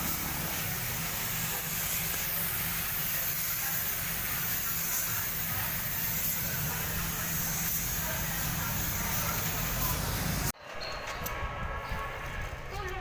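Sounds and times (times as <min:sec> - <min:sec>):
paint spray gun hissing: 0:00.0 - 0:10.6.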